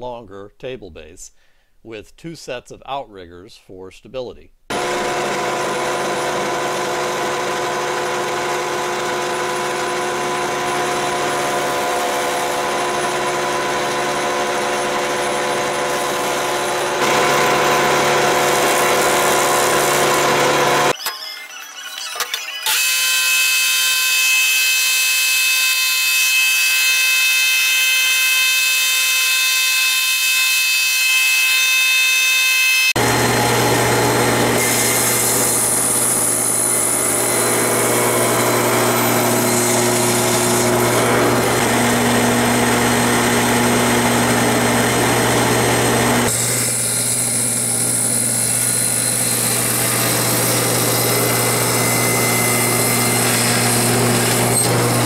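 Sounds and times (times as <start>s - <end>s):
table saw running: 4.7s - 21.0s, 21.7s - 55.0s
high-pitched machine whine: 4.7s - 30.2s, 31.0s - 55.0s.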